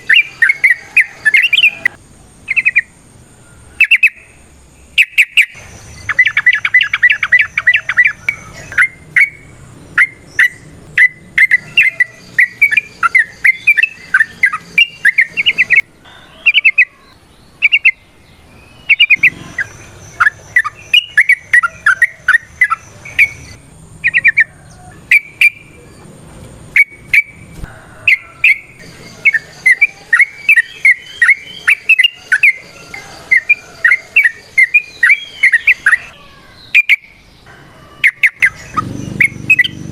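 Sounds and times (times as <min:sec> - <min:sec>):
bird chattering song: 0:00.0 - 0:03.0, 0:03.6 - 0:39.9
bird trill: 0:00.0 - 0:39.9.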